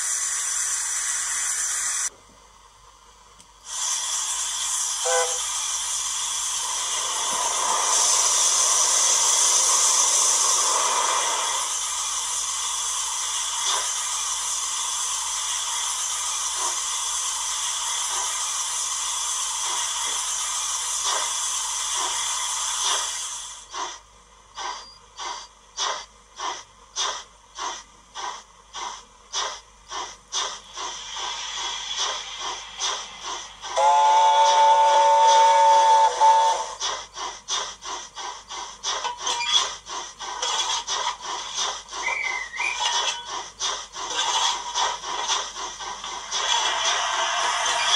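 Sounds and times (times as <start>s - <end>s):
model steam hiss: 0.0s - 2.1s, 3.6s - 24.0s, 24.6s - 47.9s
steam locomotive exhaust chuffs: 0.0s - 2.1s, 3.6s - 47.9s.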